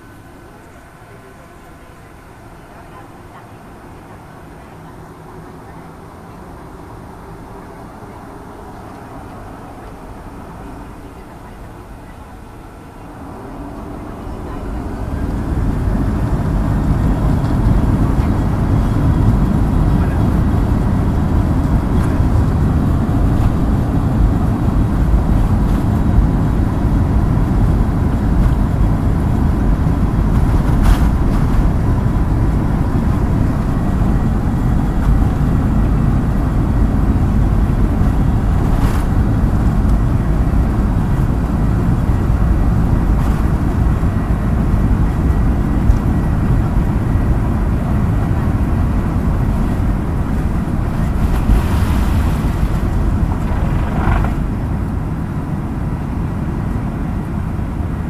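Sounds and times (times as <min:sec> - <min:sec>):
faint steady engine whine: 0:00.0 - 0:58.0
jet engines deep rumble: 0:00.0 - 0:58.0.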